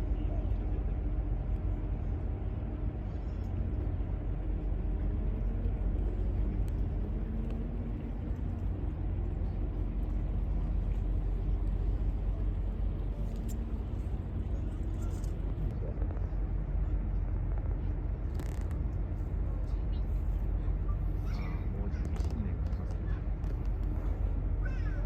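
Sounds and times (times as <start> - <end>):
heavy low rumble: 0.0 - 25.0.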